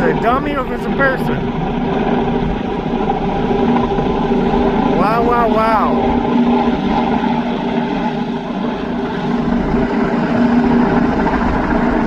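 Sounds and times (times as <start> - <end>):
helicopter hovering: 0.0 - 12.0.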